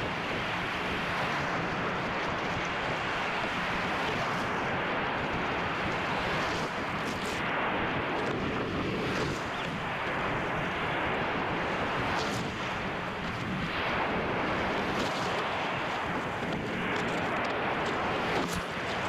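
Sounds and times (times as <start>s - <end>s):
ocean surf washing: 0.0s - 19.0s
wind buffeting microphone: 0.0s - 19.0s.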